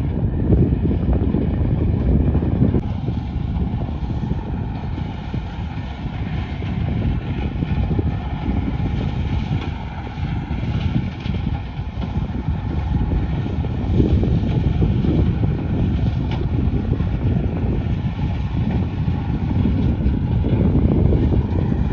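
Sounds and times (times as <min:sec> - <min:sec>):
diesel machinery rumble: 0:00.0 - 0:21.9
wind buffeting microphone: 0:00.0 - 0:21.9.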